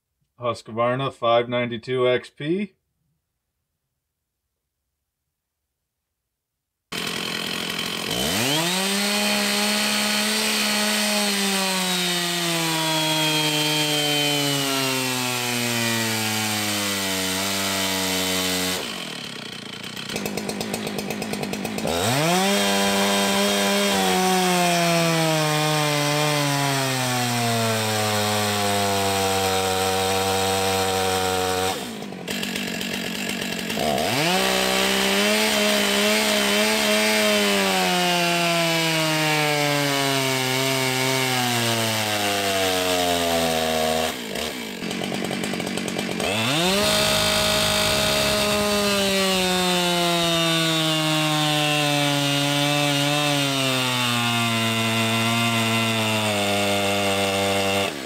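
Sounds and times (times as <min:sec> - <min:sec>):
chainsaw revving: 0:06.9 - 0:58.0.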